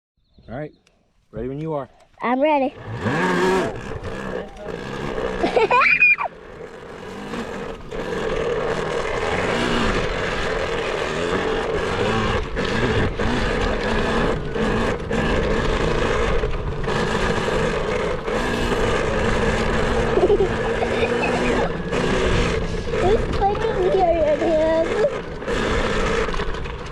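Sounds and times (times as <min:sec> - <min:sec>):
dirt bike engine revving: 0:02.3 - 0:26.9.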